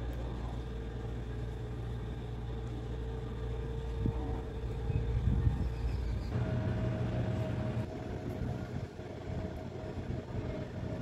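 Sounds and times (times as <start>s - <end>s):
motor rumbling and humming: 0.0s - 11.0s.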